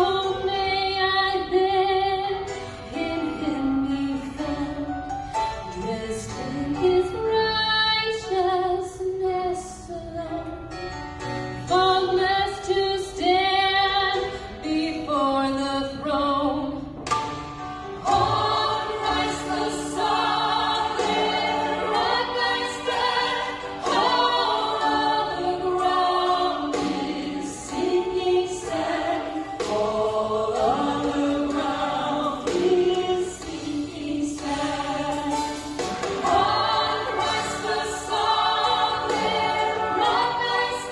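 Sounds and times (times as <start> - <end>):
women singing gospel duet: 0.0 - 10.8, 11.6 - 16.9, 18.0 - 40.9.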